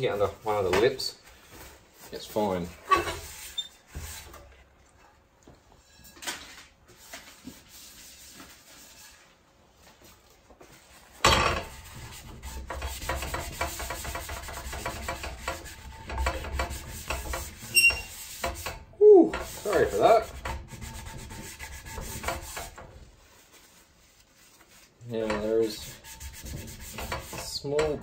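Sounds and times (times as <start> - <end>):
paper towel scrubbing a frying pan: 0.0 - 4.6, 5.8 - 28.0.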